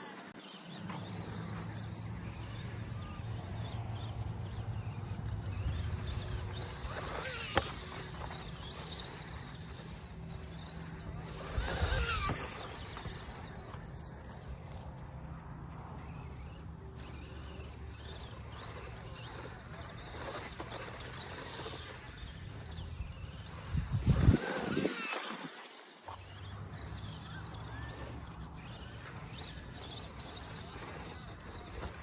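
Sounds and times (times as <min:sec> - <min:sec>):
rc truck motor humming: 0:00.0 - 0:32.0.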